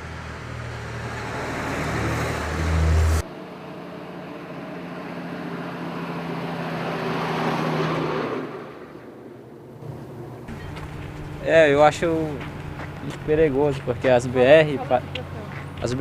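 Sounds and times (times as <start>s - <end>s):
vehicle engine passing on road: 0.0s - 16.0s.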